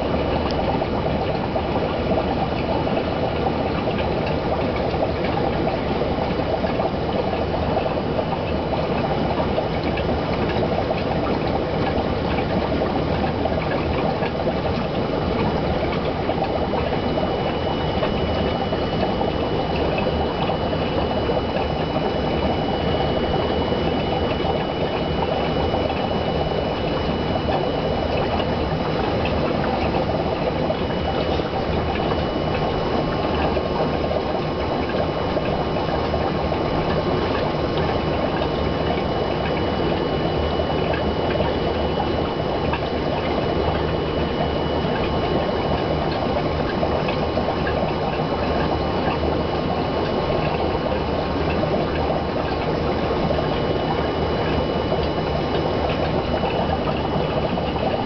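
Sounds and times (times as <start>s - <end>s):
aquarium air bubbling: 0.0s - 58.0s
thin steady tone: 0.0s - 58.0s.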